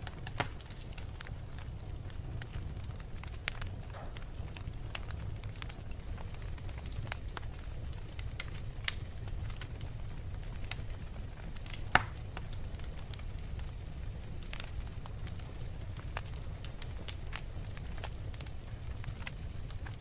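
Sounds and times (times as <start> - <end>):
flames rumbling in a fireplace: 0.0 - 20.0
logs crackling and popping: 0.0 - 20.0.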